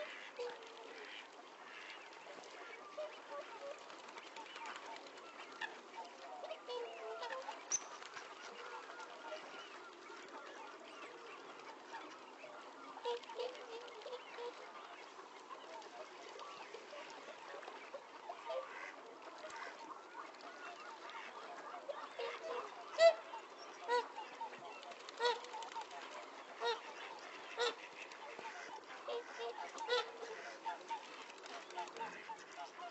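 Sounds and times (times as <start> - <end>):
swans and ducks calling: 0.0 - 32.9.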